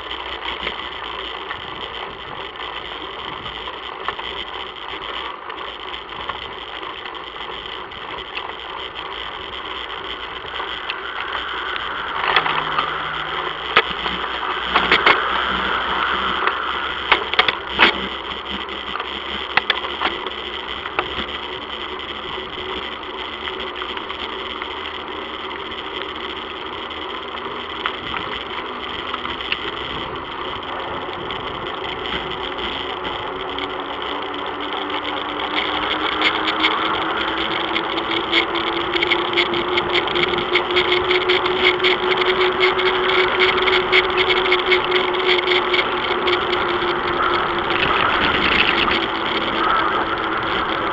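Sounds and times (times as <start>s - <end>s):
wind and road noise: 0.0s - 50.9s
car engine hum rising in pitch: 8.5s - 24.2s, 24.8s - 50.9s.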